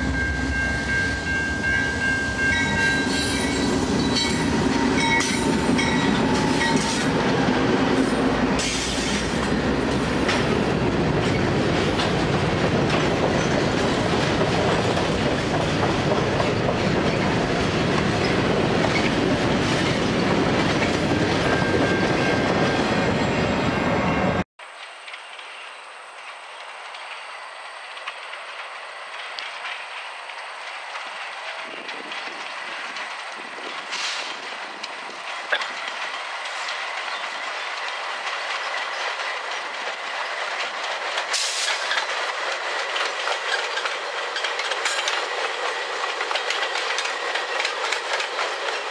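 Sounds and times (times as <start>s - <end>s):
diesel locomotive engines passing: 0.0s - 48.9s
train wheels clacking over rail joints: 2.4s - 22.8s, 27.9s - 48.9s.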